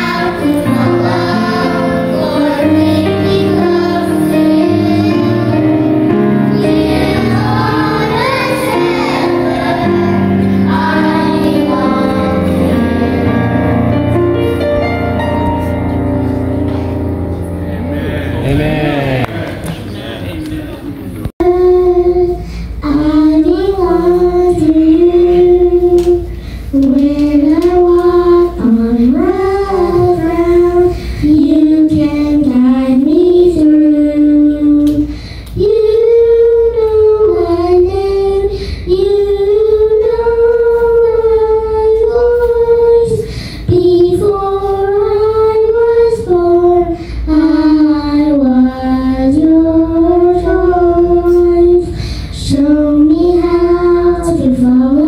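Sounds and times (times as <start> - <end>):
children singing in unison: 0.0 - 13.4, 21.4 - 55.0.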